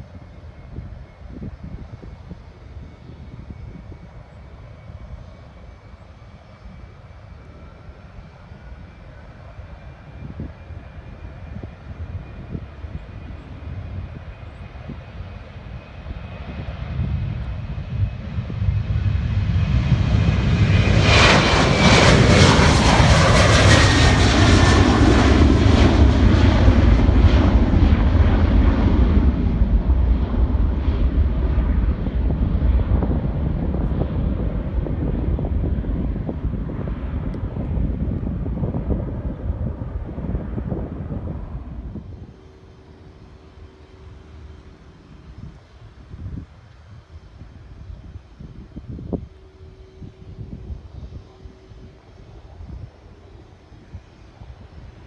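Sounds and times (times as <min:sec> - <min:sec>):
jet airliner taking off: 0:00.0 - 0:55.0.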